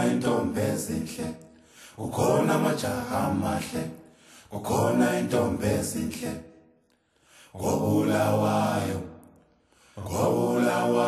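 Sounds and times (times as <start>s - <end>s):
low voices chanting: 0.0s - 6.6s, 7.5s - 11.0s.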